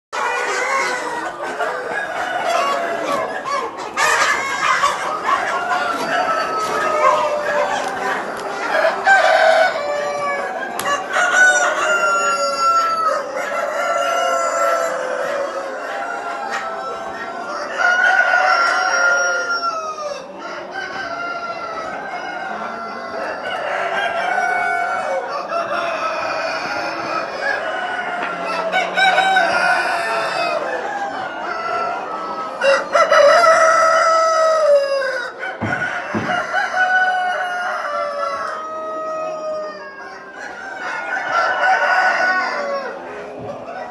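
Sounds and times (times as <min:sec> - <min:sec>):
chickens clucking: 0:00.2 - 0:43.9
cockerels crowing: 0:00.2 - 0:43.9.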